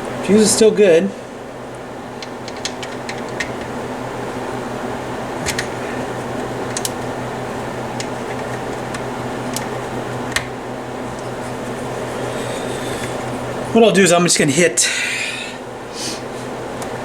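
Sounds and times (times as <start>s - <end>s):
room heater fan humming: 0.0s - 17.0s.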